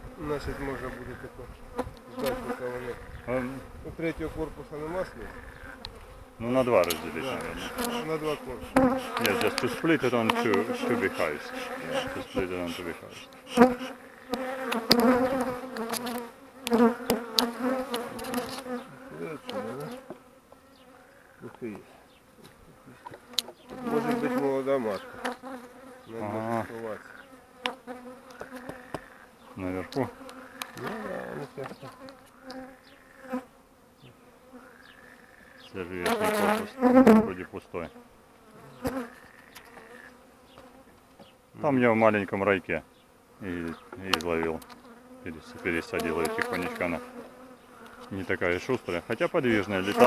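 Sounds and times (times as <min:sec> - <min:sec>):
honeybees buzzing: 0:00.0 - 0:50.0.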